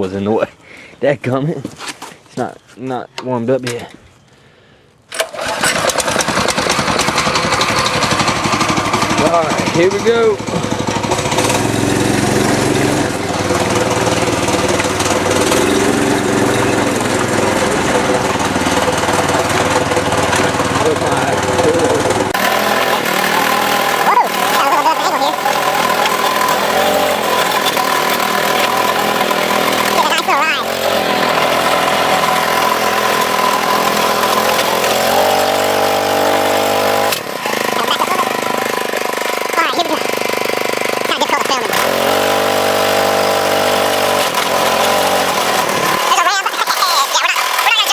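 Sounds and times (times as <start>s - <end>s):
riding mower engine running: 5.1s - 47.9s.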